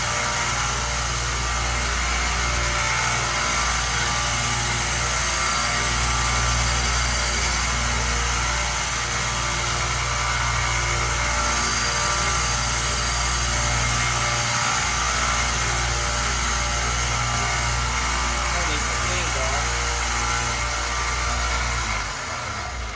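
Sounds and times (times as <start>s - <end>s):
belt sander motor humming: 0.0s - 22.9s.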